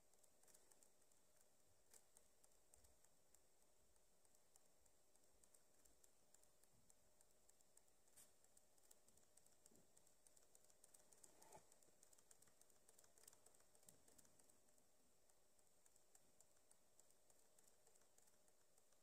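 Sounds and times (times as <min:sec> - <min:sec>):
soft clicks: 0:00.0 - 0:19.0.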